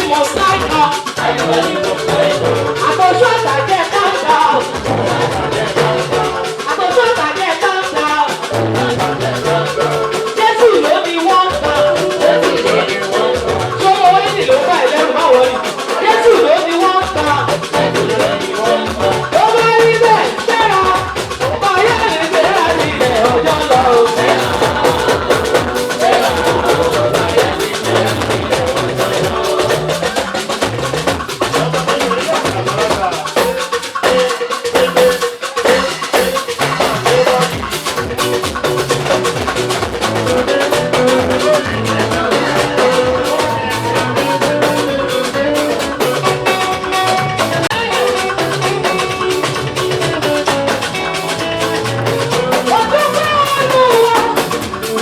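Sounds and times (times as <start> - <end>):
drum kit and percussion beat: 0.0 - 55.0
live gospel band music: 0.0 - 55.0.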